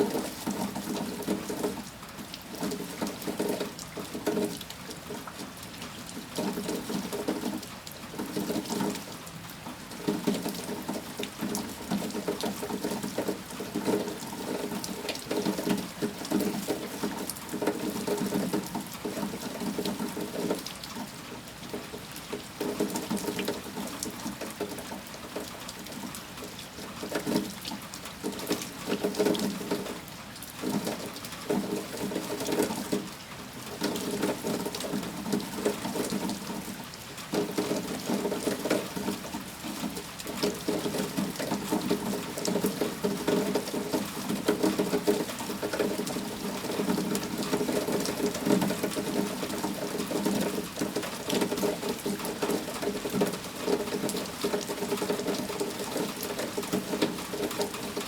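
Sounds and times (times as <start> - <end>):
heavy rain pouring and splashing: 0.0 - 58.0.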